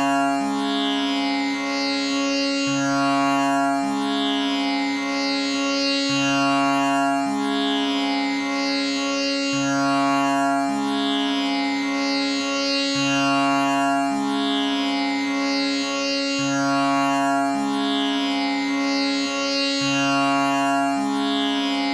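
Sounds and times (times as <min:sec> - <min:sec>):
tanpura drone: 0:00.0 - 0:21.9.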